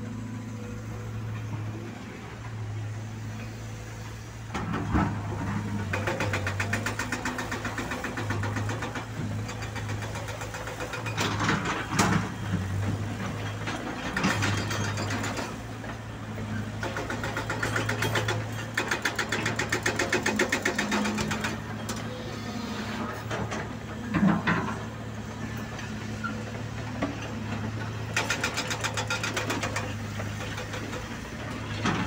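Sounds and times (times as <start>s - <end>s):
excavator diesel engine humming: 0.0s - 32.0s.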